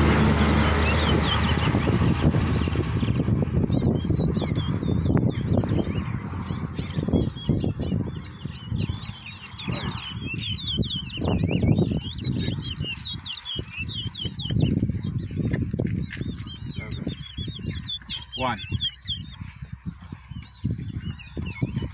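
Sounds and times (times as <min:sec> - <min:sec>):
finch singing whistled trills: 0:00.8 - 0:21.9.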